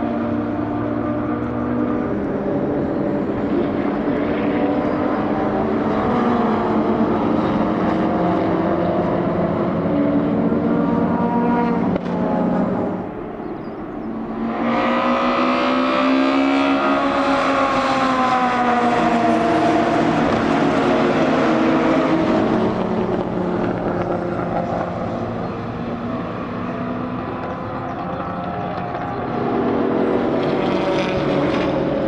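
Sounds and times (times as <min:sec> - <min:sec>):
racing car passing by: 0:00.0 - 0:32.0.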